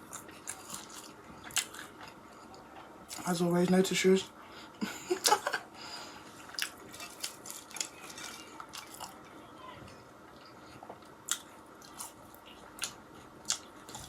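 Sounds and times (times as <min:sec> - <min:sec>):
person chewing food: 0:00.0 - 0:03.3, 0:05.1 - 0:09.4, 0:10.3 - 0:14.0.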